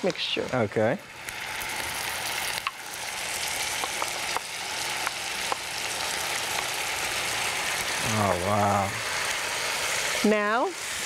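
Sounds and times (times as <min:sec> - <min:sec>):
mixture sizzling in hot oil: 0:00.0 - 0:11.0.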